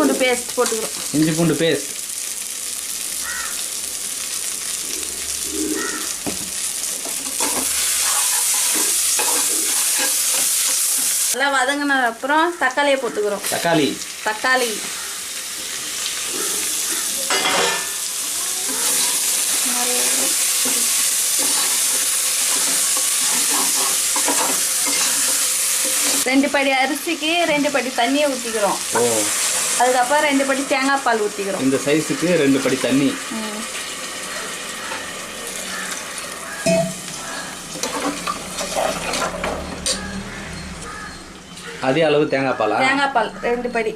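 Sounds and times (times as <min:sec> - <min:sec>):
vegetables sizzling in oil: 0:00.0 - 0:43.9.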